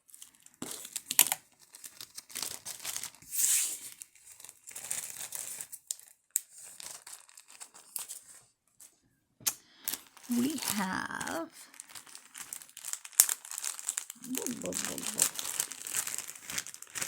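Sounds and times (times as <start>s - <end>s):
packaging crinkling and rustling: 0.0s - 8.5s, 9.9s - 17.0s.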